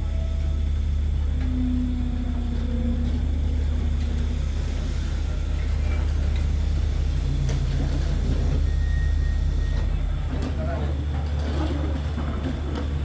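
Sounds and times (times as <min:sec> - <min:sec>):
diesel train engine rumbling: 0:00.0 - 0:13.0.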